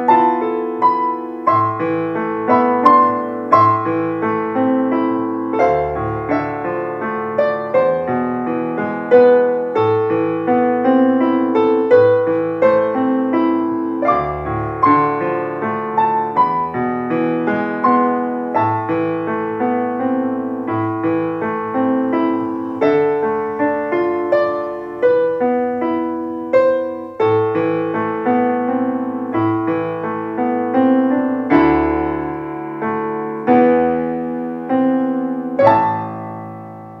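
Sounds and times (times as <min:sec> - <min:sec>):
grand piano playing classical piece: 0:00.0 - 0:37.0.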